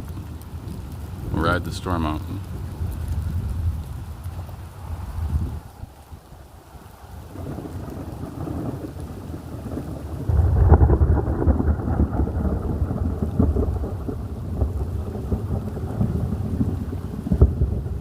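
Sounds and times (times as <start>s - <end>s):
thunder crack and rumble: 0.0s - 4.5s, 7.2s - 18.0s
rain falling: 0.0s - 18.0s.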